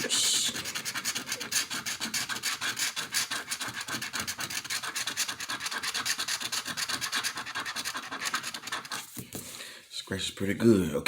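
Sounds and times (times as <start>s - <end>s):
lottery ticket being scratched: 0.0s - 9.1s.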